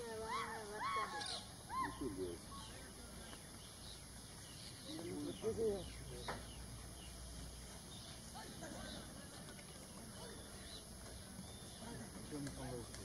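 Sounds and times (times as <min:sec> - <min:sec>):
faint bird chirps: 0:00.0 - 0:12.3
distant human voices: 0:00.0 - 0:13.0.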